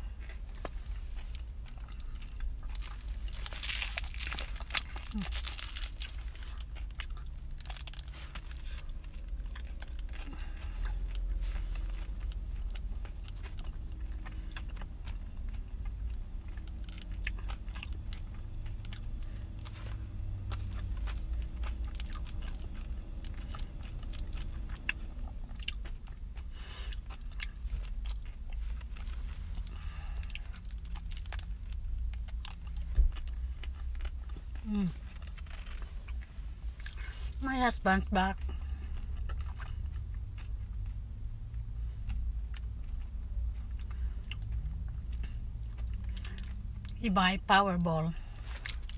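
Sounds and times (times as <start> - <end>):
chewing and crunching ice cream bar: 0.0 - 48.9
steady low rumble: 0.0 - 48.9.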